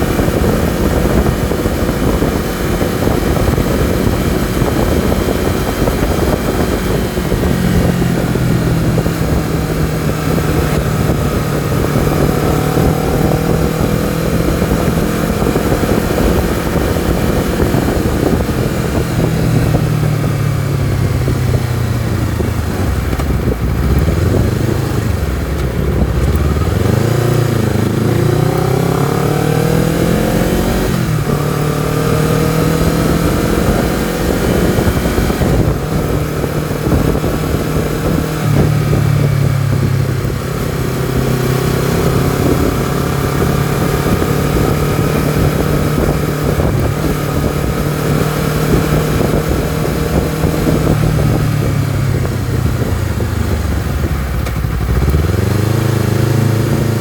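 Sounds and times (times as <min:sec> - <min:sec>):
gear change: 0:00.0 - 0:57.0
motorcycle engine running: 0:00.0 - 0:57.0.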